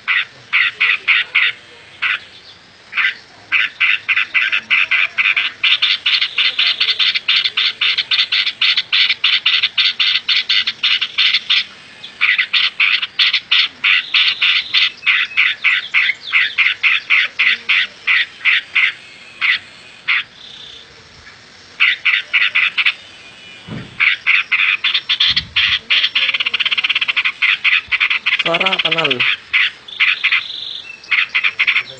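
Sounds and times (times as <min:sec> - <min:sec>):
animal rasping clicking calls: 0:00.1 - 0:02.2, 0:02.9 - 0:20.7, 0:21.8 - 0:23.0, 0:24.0 - 0:31.9.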